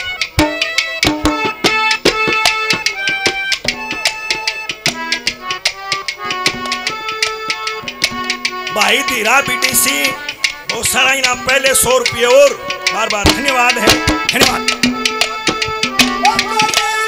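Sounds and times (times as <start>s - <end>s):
melody of held notes: 0.0s - 17.0s
fast hand-drum strokes: 0.3s - 17.0s.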